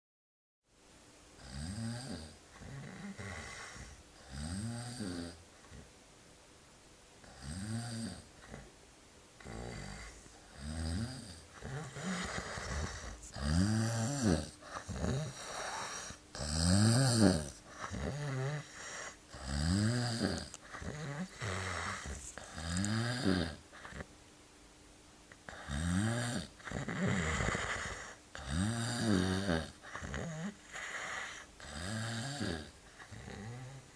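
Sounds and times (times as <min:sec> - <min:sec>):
man snoring loudly: 0:01.4 - 0:05.4, 0:07.2 - 0:08.6, 0:09.4 - 0:24.0, 0:25.5 - 0:33.9.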